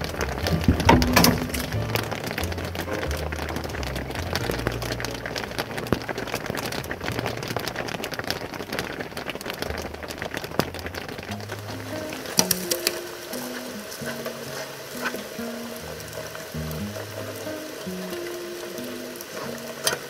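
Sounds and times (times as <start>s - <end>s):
heavy rain: 0.0s - 20.0s
sharp raindrop hits: 0.0s - 20.0s.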